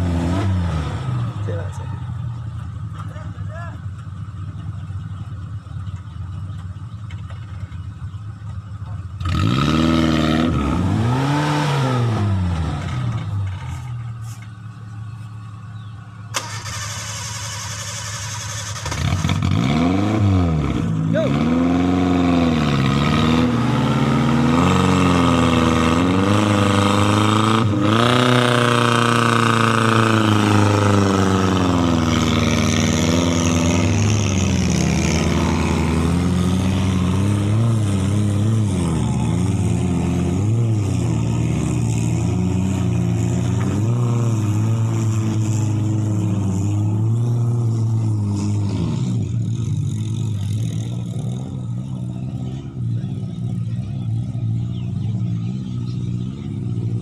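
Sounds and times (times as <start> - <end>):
engine revving up and down: 0.0 - 2.2, 9.1 - 14.0, 16.4 - 57.0.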